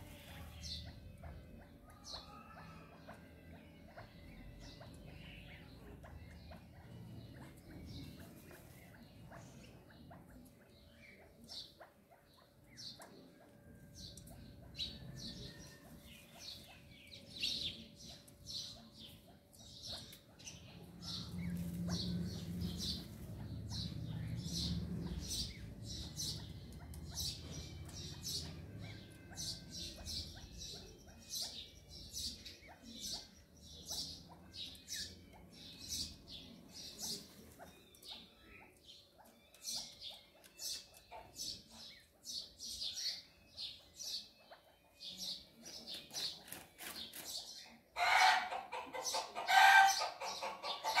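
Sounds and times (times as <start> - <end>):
chicks peeping: 0.0 - 51.0.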